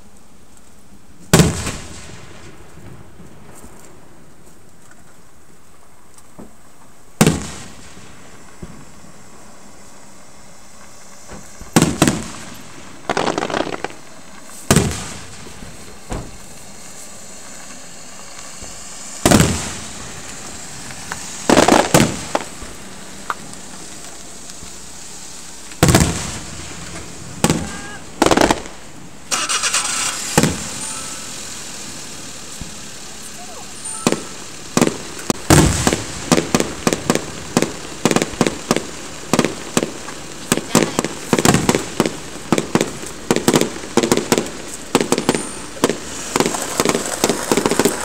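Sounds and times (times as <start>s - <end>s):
fireworks crackling: 0.0s - 48.0s
fireworks bangs: 1.2s - 5.2s, 6.3s - 48.0s.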